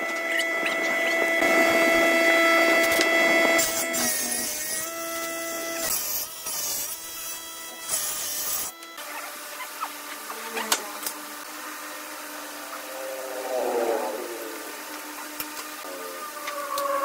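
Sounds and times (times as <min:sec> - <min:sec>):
planer blades cutting wood: 0:00.0 - 0:14.0.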